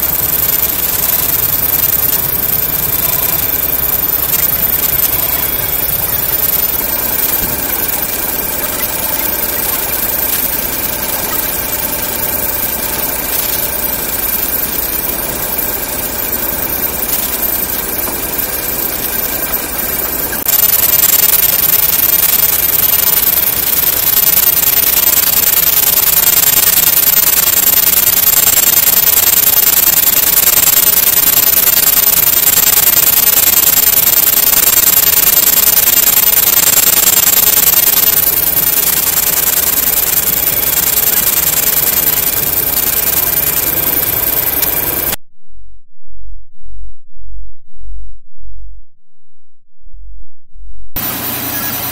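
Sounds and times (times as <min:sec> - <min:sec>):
milling machine cutting metal: 0:00.0 - 0:45.2, 0:51.0 - 0:51.9.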